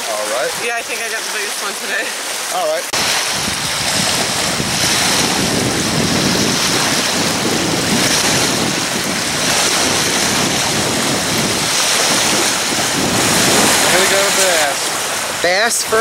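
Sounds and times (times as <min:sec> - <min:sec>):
waves washing on shore: 0:00.0 - 0:16.0
wind buffeting microphone: 0:02.9 - 0:16.0.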